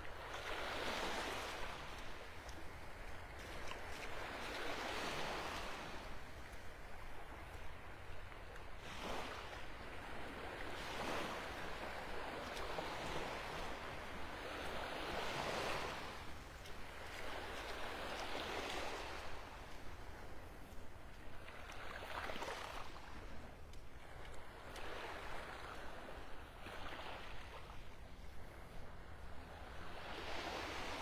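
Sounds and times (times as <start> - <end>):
gentle waves washing onto beach: 0.0 - 31.0.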